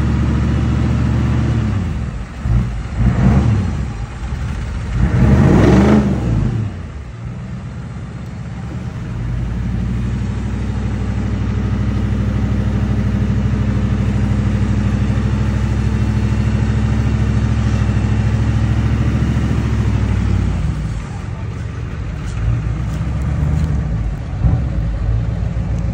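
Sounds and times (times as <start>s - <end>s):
engine revving: 0.0s - 25.9s
truck engine running: 0.0s - 25.9s.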